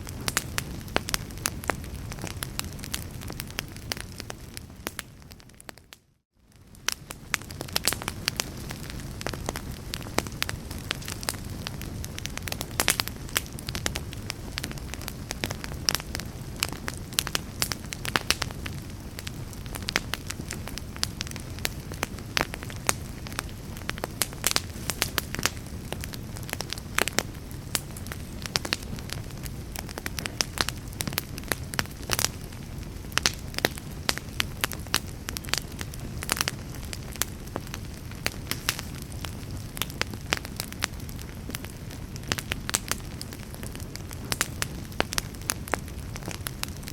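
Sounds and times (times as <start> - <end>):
fire crackling in a fireplace: 0.0 - 46.9.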